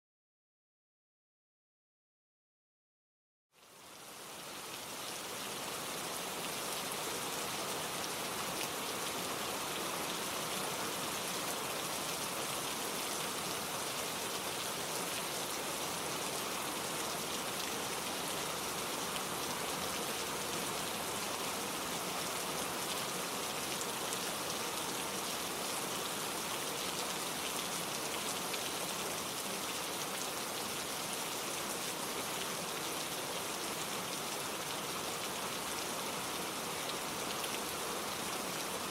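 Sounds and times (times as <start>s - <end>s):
gentle rain falling: 3.6s - 38.9s.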